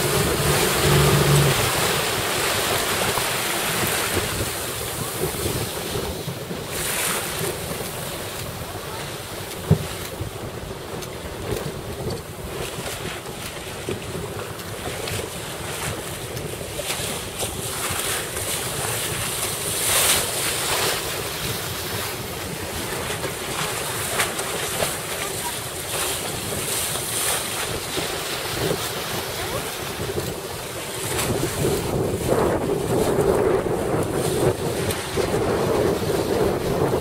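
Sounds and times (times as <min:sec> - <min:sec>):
waves and splashing water: 0:00.0 - 0:37.0
wind buffeting microphone: 0:00.0 - 0:37.0.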